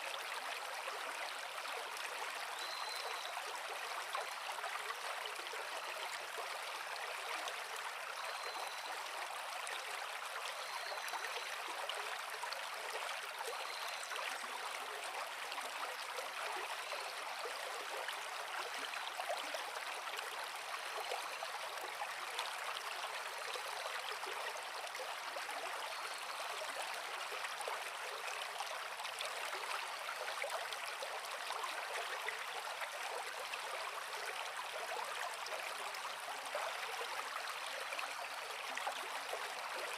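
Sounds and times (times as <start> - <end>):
creek flowing over rocks: 0.0 - 39.9.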